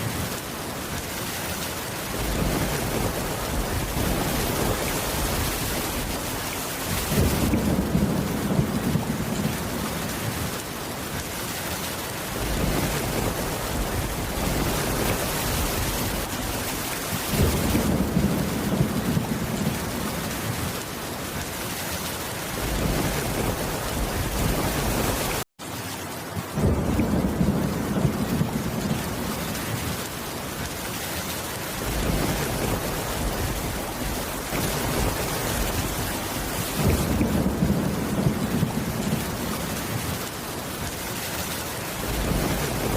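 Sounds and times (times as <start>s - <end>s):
steady rain: 0.0s - 42.9s
thunder rumbling: 2.0s - 11.2s, 12.3s - 21.6s, 22.4s - 25.4s, 26.4s - 30.9s, 31.7s - 41.0s, 41.9s - 42.9s.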